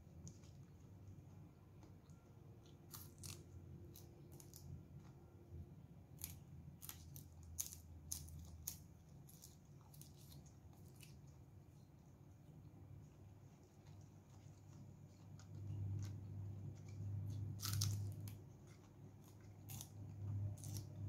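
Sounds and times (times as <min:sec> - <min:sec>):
crunchy chewing of greens: 0:00.0 - 0:12.3, 0:12.9 - 0:21.0.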